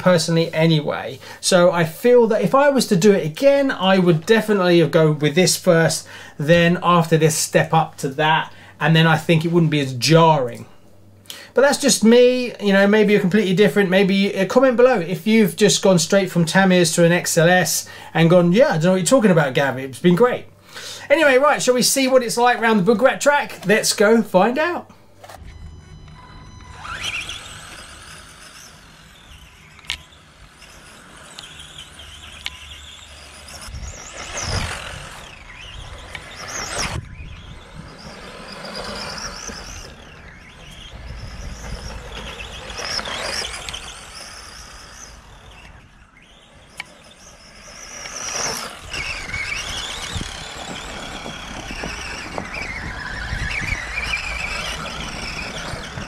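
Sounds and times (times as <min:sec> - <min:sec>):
electric motor whining: 0:00.0 - 0:56.0.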